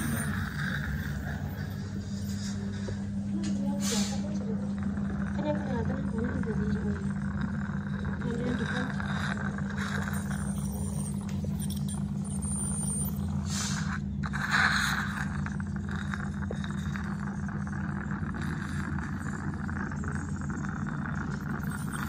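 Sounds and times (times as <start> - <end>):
dental scaler hissing: 0.0 - 3.0, 3.9 - 22.0
low motor hum: 0.0 - 22.0.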